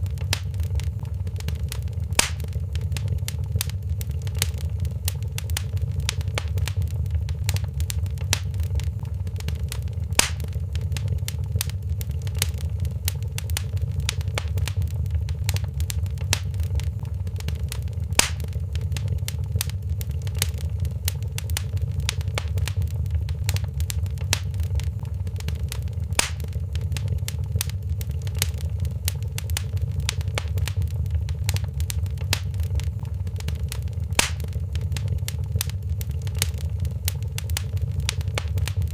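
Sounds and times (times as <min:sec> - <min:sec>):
loud fire pops: 0:00.0 - 0:38.9
low fire rumble: 0:00.0 - 0:38.9
wood fire crackling: 0:00.0 - 0:38.9.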